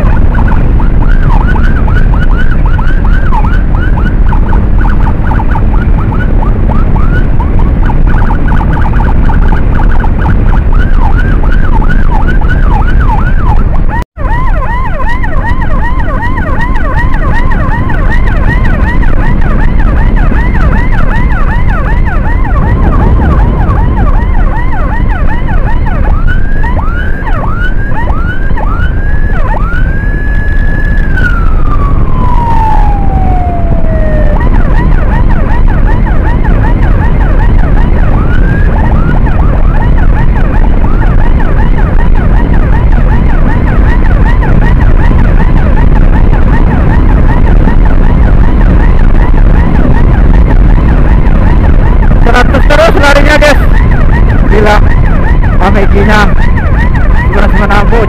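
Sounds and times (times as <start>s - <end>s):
electronic siren yelping: 0.0s - 58.0s
heavy wind: 0.0s - 58.0s
motorcycle road rumble: 0.0s - 58.0s.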